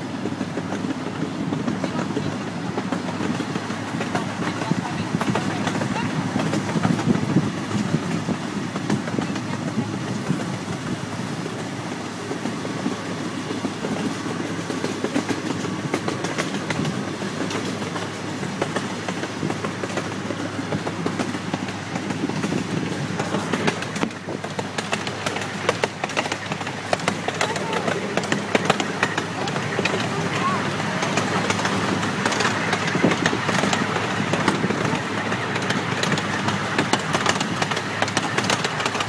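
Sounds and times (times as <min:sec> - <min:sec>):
ride train rumbling on track: 0:00.0 - 0:39.0
wheels clicking on rails: 0:00.0 - 0:39.0.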